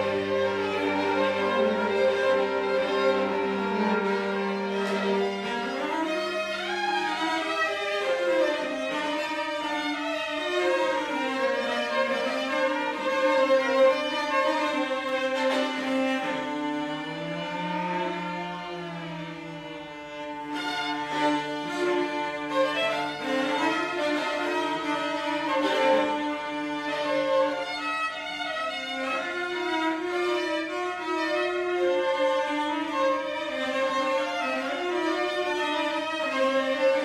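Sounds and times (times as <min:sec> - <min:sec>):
violin and cello duo: 0:00.0 - 0:37.0.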